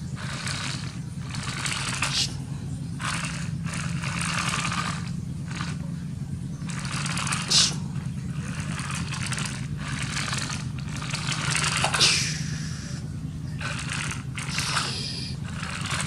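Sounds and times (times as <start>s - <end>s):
low hum: 0.0s - 16.0s
toy vehicles scraping and clattering: 0.0s - 16.0s.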